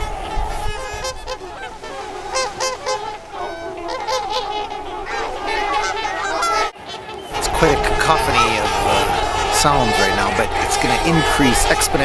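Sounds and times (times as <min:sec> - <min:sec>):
swans honking: 0:00.0 - 0:12.0.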